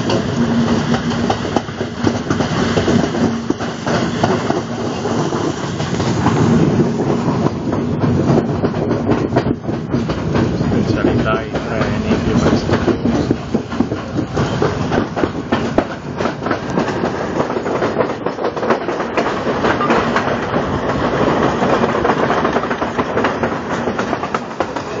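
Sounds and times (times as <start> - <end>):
train rumble: 0.0 - 25.0
wheels clattering over rail joints: 0.0 - 25.0.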